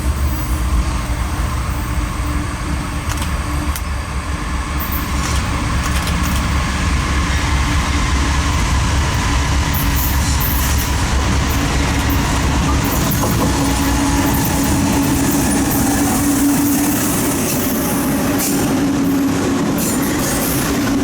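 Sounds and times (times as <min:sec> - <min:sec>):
freight train rolling by: 0:00.0 - 0:21.0.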